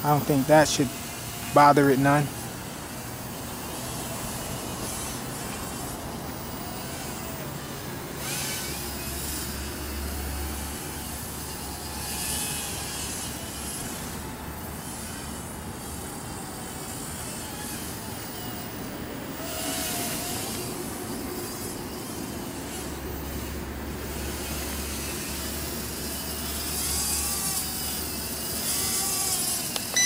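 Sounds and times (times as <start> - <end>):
toy drone motors whining: 0.0 - 30.0.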